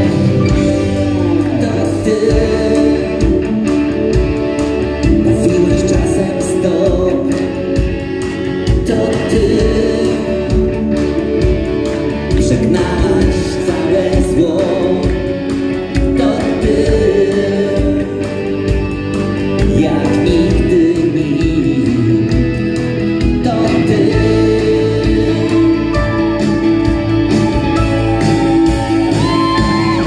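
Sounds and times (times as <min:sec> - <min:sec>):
lead vocal with backing singers: 0:00.0 - 0:04.3, 0:05.0 - 0:11.6, 0:12.3 - 0:18.9, 0:19.5 - 0:26.7
live band playing: 0:00.0 - 0:30.0.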